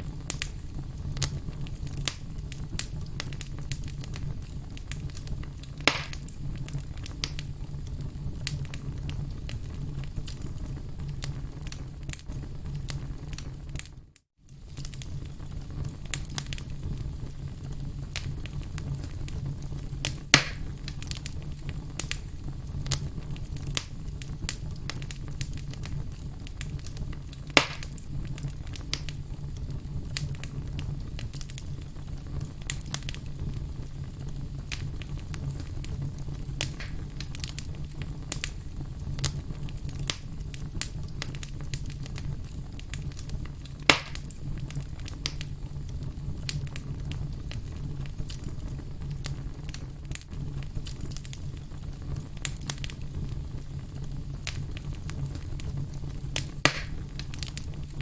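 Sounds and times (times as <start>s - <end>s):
firewood crackling: 0.0s - 58.0s
loud fire pops: 0.0s - 58.0s
low fire rumble: 0.0s - 58.0s.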